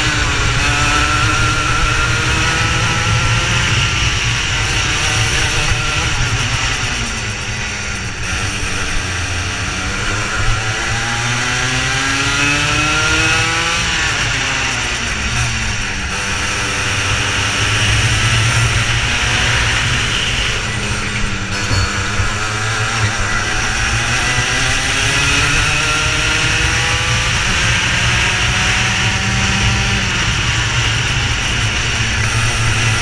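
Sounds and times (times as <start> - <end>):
racing kart engines: 0.0 - 33.0.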